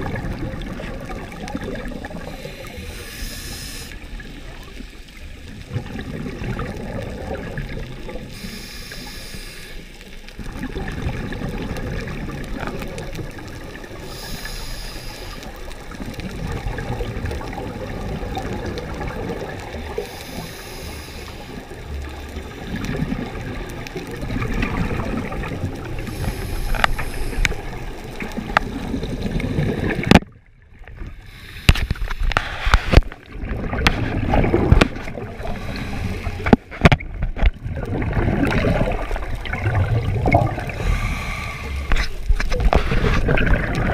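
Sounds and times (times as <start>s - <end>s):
low rumble of water: 0.0s - 43.9s
underwater regulator bubbles: 0.0s - 43.9s.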